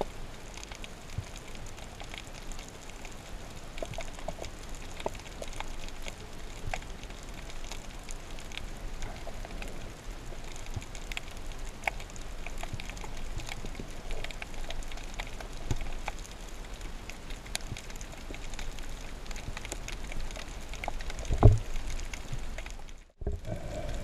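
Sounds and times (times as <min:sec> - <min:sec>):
low underwater hiss: 0:00.0 - 0:22.5, 0:23.1 - 0:24.0
underwater crackle of clicks: 0:00.0 - 0:24.0.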